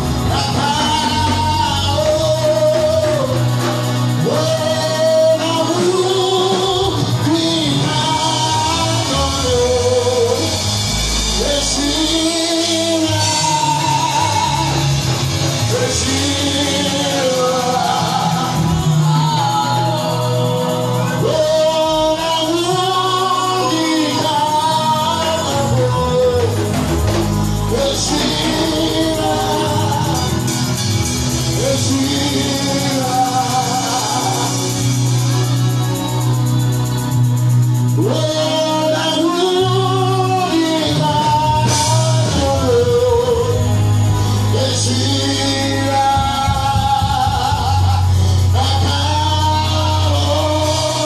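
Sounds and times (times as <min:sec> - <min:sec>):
live band drums and keyboard: 0:00.0 - 0:51.0
man singing gospel through a microphone: 0:00.0 - 0:51.0.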